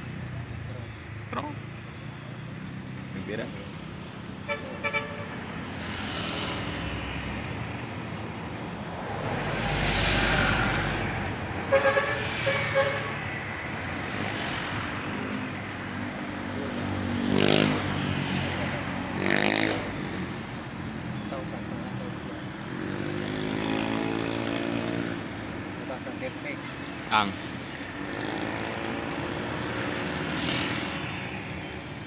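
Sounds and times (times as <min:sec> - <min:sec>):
road traffic passing: 0:00.0 - 0:32.0.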